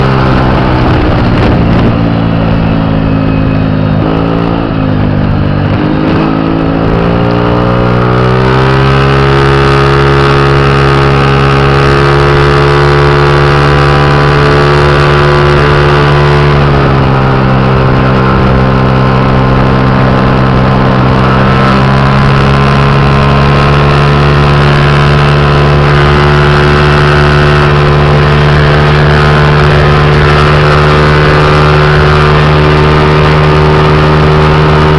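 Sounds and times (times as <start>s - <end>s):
scooter engine accelerating: 0.0s - 34.9s.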